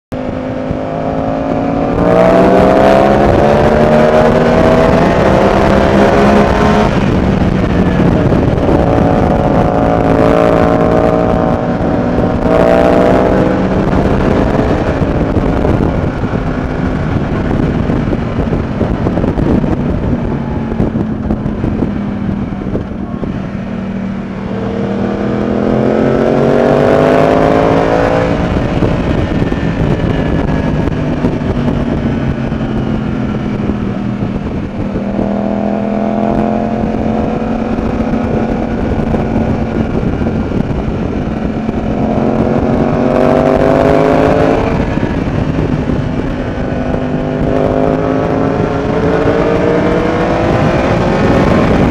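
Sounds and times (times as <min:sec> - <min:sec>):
motorcycle engine accelerating: 0:00.1 - 0:51.9
wind noise: 0:00.1 - 0:51.9.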